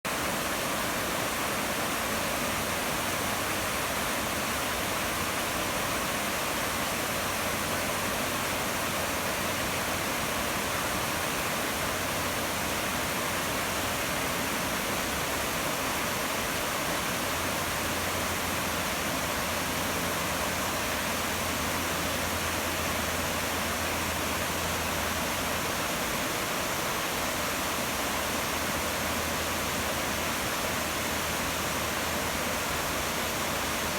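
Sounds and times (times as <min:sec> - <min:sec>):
creek rushing over cascades: 0:00.1 - 0:33.9.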